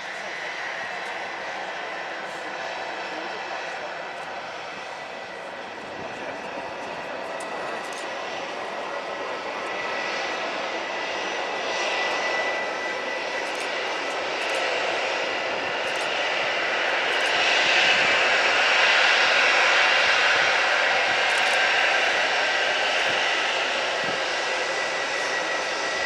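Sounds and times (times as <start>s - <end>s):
airliner engine noise: 0.0s - 26.0s.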